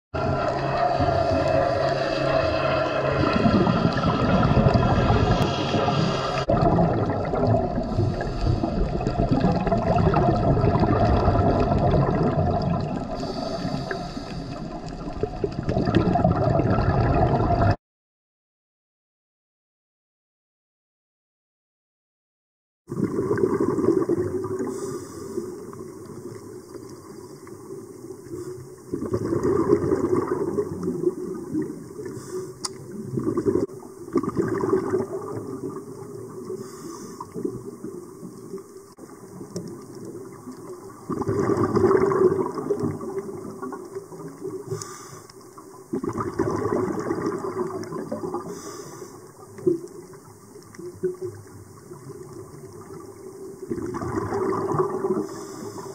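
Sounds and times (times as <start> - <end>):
underwater exhaled breath bubbling: 0.2 - 17.8, 22.9 - 55.9.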